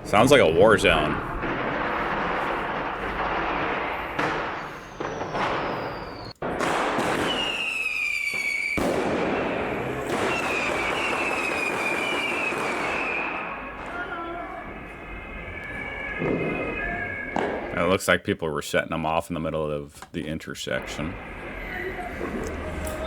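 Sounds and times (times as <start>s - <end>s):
firecrackers banging and crackling: 0.0s - 18.2s, 20.8s - 23.0s
whistling fireworks: 0.0s - 18.2s, 20.7s - 23.0s.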